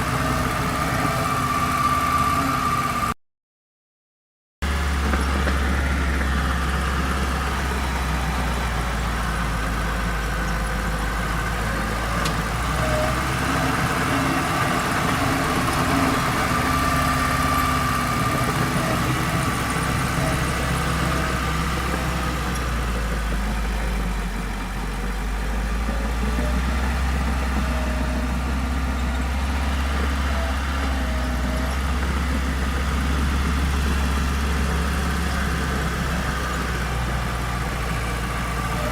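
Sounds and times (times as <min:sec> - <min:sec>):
heavy diesel engine running: 0:00.0 - 0:03.2, 0:04.6 - 0:38.9.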